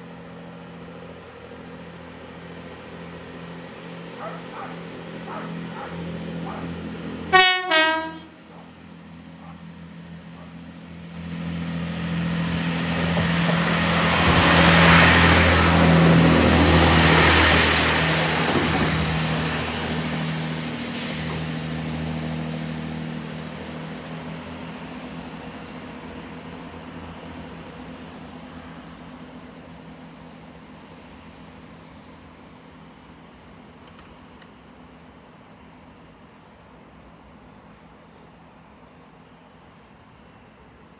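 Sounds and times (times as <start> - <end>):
diesel train engine drone: 0.0 - 40.9
train wheel and rail noise: 0.0 - 40.9.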